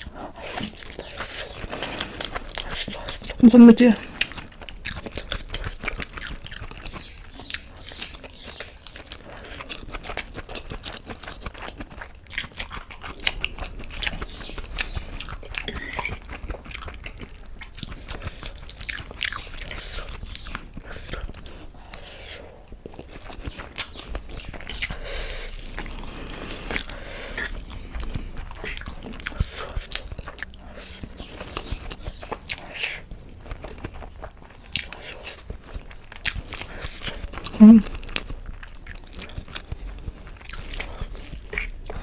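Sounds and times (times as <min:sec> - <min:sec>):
person chewing noodles: 0:00.0 - 0:42.0.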